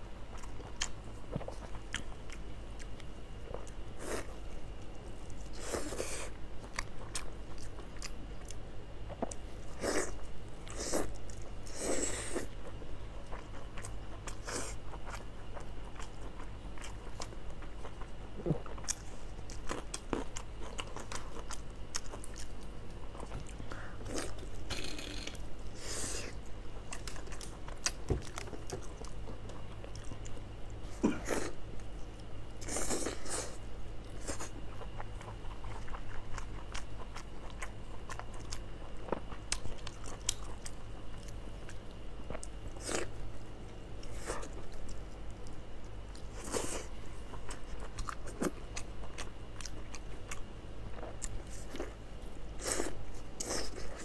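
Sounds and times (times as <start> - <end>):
chewing and biting food: 0.3 - 25.4, 26.3 - 54.0.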